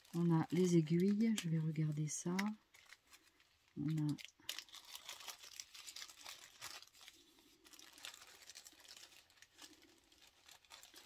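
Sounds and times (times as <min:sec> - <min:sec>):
faint crinkling of packets: 0:00.0 - 0:11.0.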